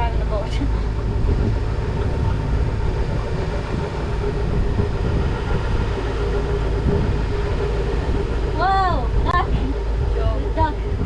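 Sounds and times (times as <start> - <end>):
motorboat engine rumbling: 0.0 - 11.0.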